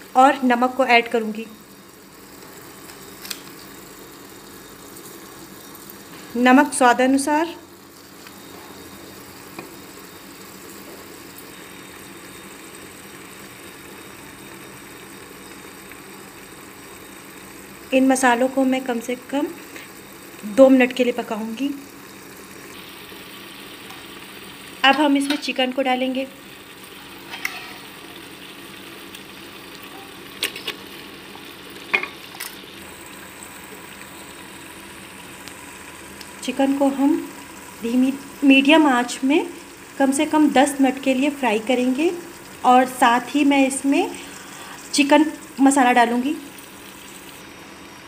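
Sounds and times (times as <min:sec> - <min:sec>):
paste sizzling in oil: 0:00.0 - 0:48.0.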